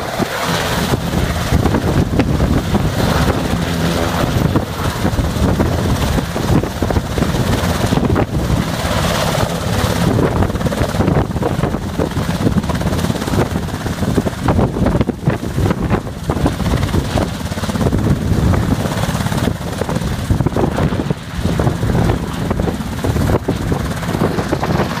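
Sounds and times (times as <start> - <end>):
helicopter rotors and engines: 0.0 - 25.0
rotor downwash buffeting microphone: 0.0 - 25.0.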